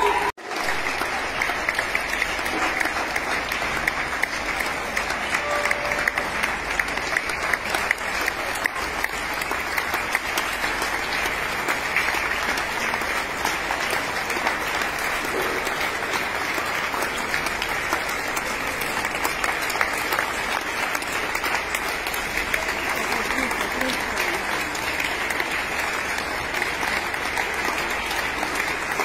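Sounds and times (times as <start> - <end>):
crowd applauding: 0.0 - 29.0.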